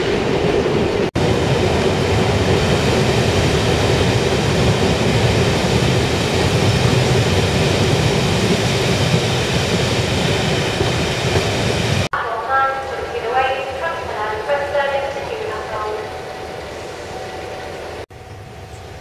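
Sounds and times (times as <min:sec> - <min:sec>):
passenger train running: 0:00.0 - 0:19.0.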